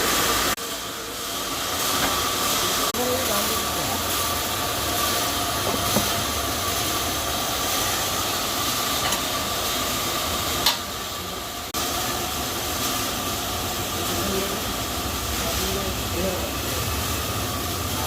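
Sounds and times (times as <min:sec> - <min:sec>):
machine hissing with high whine: 0:00.0 - 0:18.0.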